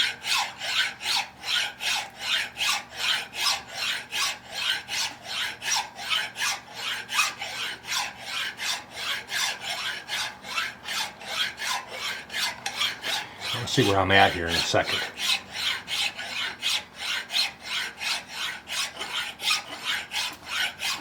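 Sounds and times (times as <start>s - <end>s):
hand file rasping: 0.0s - 21.0s.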